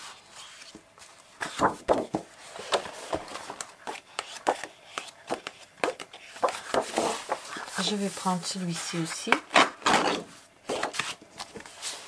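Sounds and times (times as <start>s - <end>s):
paper rustling and crackling: 0.4s - 12.0s.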